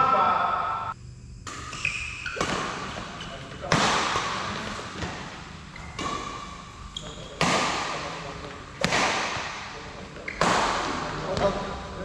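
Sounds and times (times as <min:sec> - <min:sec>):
rackets hitting shuttlecock: 0:01.4 - 0:11.7.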